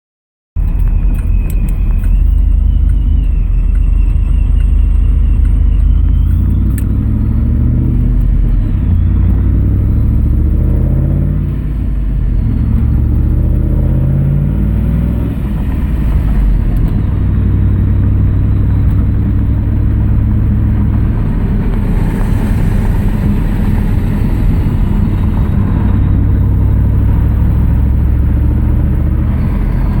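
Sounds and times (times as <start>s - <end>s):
engine and exhaust running deep: 0.6s - 30.0s
thin whine: 0.6s - 30.0s.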